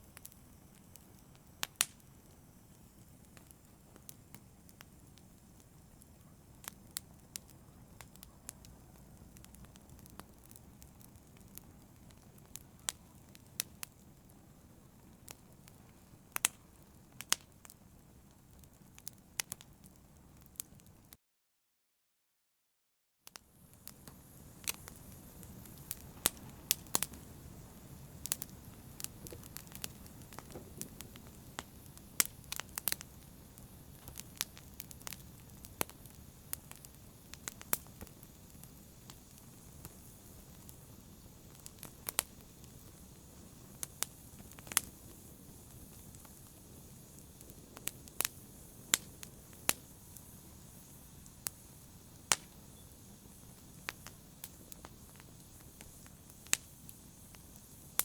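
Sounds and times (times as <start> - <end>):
fire hissing: 0.0 - 21.0, 23.4 - 58.0
fire crackling and popping: 0.0 - 21.2, 23.3 - 58.0.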